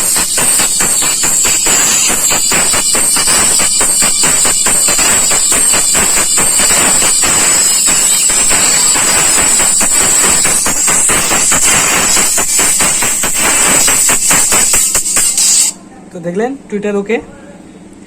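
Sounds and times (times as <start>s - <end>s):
tinny song through a tweeter: 0.0s - 15.8s.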